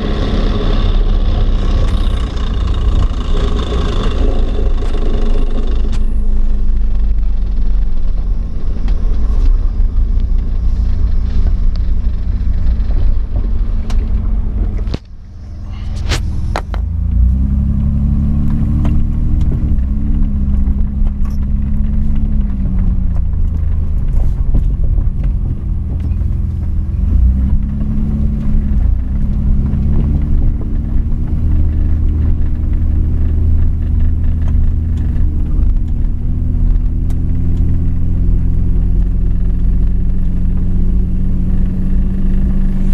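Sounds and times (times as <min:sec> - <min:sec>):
axle rumble and chatter: 0:00.0 - 0:17.3, 0:18.9 - 0:37.4
truck engine while driving: 0:00.0 - 0:42.9.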